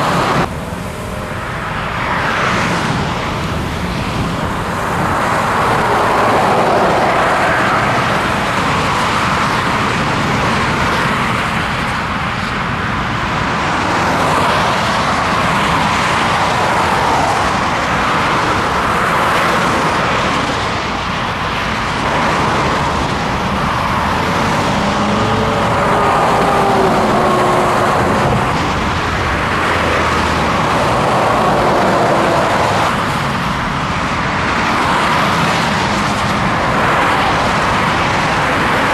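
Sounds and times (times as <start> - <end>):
heavy vehicle engine: 0.0 - 38.9.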